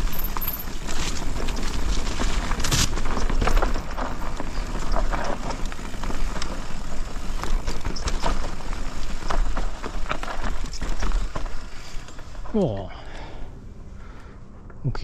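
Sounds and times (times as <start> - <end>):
bike knocking and rattling: 0.0 - 13.5
bike tyre noise on dirt: 0.0 - 14.8.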